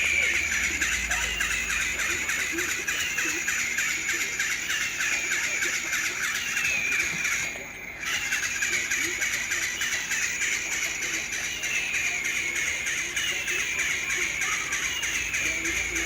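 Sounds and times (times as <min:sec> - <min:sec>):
birds chirping and twittering: 0:00.0 - 0:16.0.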